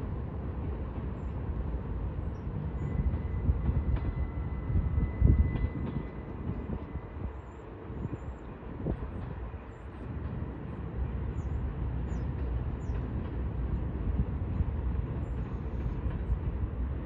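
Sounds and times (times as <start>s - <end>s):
freight train rumbling on bridge: 0.0s - 17.0s.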